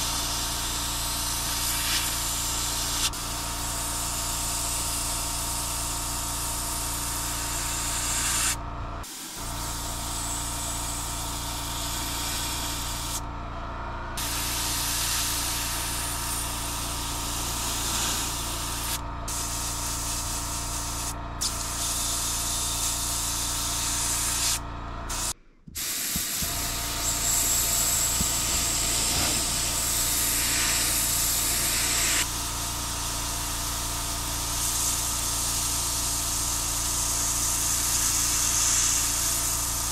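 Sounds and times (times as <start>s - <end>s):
airbrush spraying hiss: 0.0s - 13.2s, 14.2s - 39.9s
air compressor hum: 0.0s - 39.9s.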